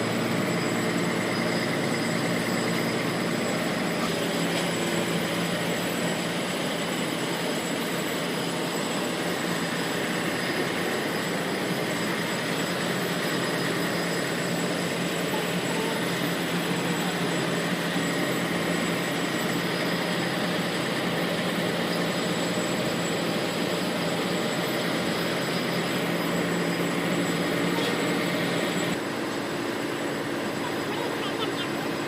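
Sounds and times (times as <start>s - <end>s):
large engine droning: 0.0s - 32.0s.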